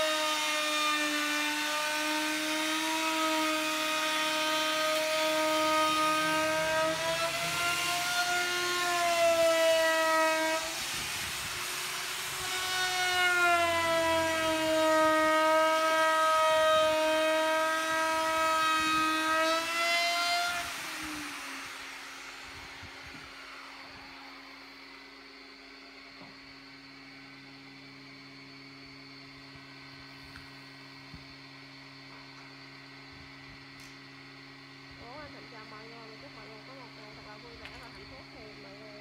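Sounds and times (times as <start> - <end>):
electric sander whining on wood: 0.0 - 39.0.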